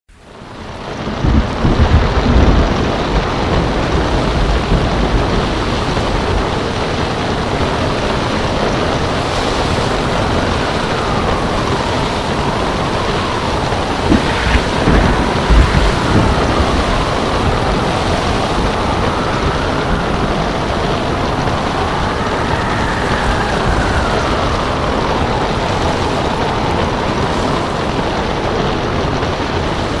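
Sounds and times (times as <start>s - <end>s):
ocean surf rushing: 0.1s - 30.0s
wind whistling: 0.2s - 30.0s.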